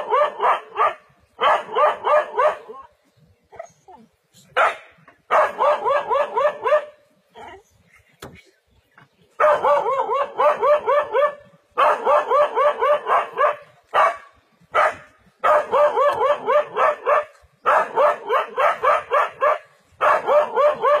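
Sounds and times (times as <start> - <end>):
dog barking rapidly: 0.0 - 2.8, 4.5 - 7.0, 9.4 - 21.0.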